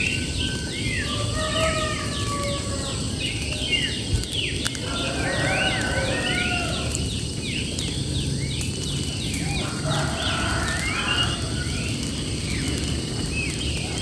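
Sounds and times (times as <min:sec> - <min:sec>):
birds whistling: 0:00.0 - 0:14.0.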